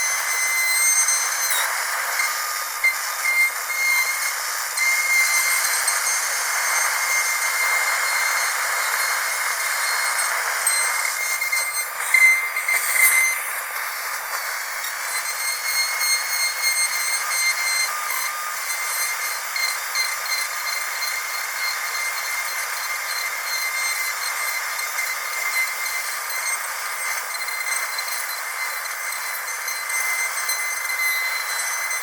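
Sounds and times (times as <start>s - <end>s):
dentist's drill whining: 0.0s - 32.0s.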